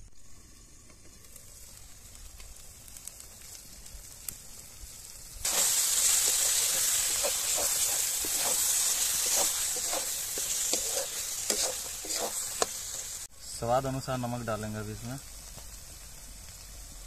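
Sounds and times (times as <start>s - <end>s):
faint hiss: 0.0s - 17.0s
food sizzling in a pan: 0.0s - 17.0s.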